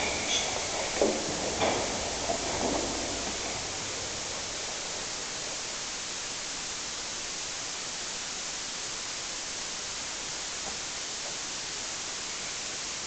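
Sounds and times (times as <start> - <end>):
recording hiss: 0.0 - 13.0.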